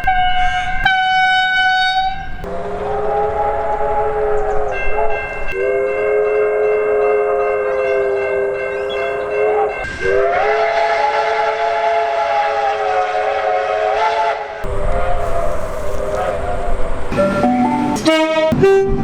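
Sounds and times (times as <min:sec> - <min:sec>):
train horn blasts: 0:00.0 - 0:19.0.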